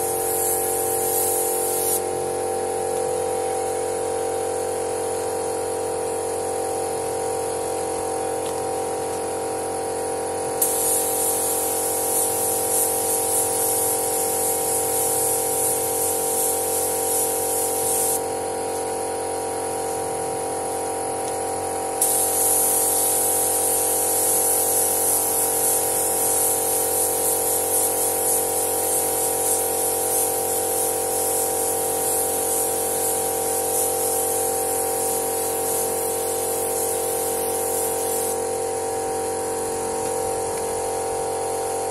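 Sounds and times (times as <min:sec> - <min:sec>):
paint spray gun hissing: 0:00.0 - 0:41.9.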